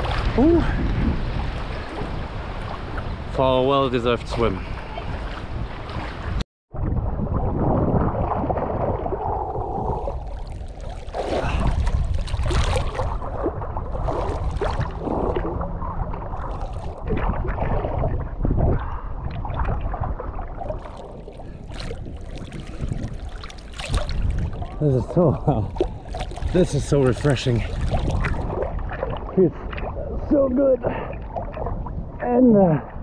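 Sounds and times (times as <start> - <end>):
water splashing and sloshing: 0.0 - 33.0
wind rumbling on microphone: 0.0 - 33.0.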